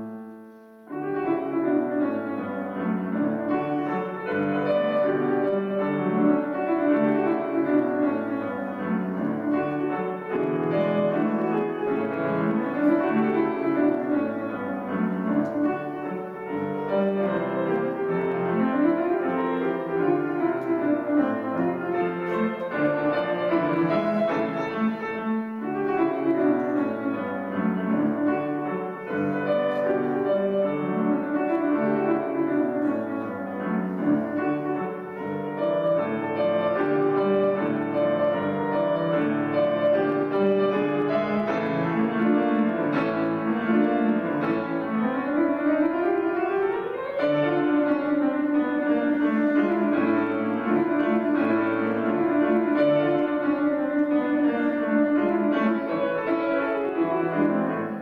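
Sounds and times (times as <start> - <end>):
fast solo piano: 0.0 - 58.0.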